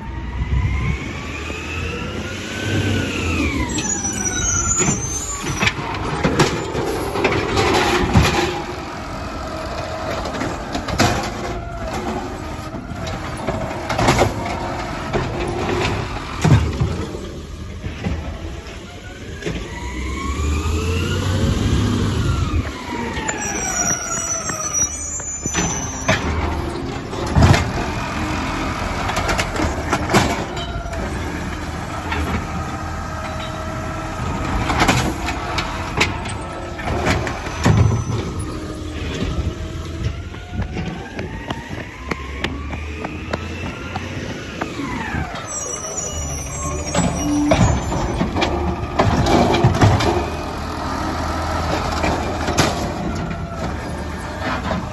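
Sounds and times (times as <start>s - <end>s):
hydraulic whine: 0.0s - 54.9s
garbage truck engine revving: 0.1s - 54.9s
bangs and clanks of cart: 2.6s - 20.4s, 21.1s - 54.9s.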